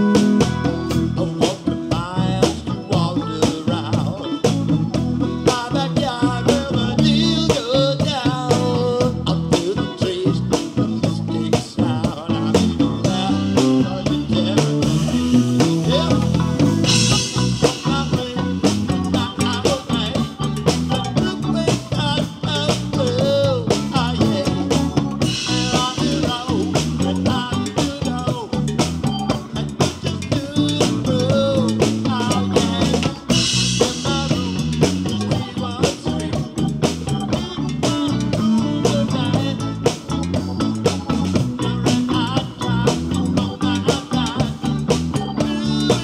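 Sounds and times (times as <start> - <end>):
live reggae band playing: 0.0 - 46.0.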